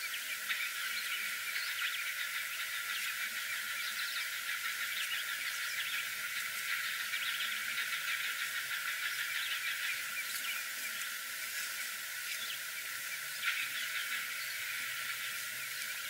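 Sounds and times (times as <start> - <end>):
steady hiss: 0.0 - 16.0
warbler chattering calls: 0.0 - 16.0.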